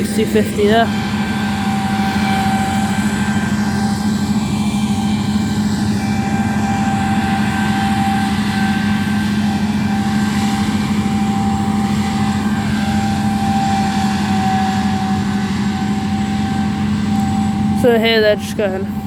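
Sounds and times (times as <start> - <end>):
farm machinery engine drone: 0.0 - 19.0
high-pitched whine: 0.0 - 19.0.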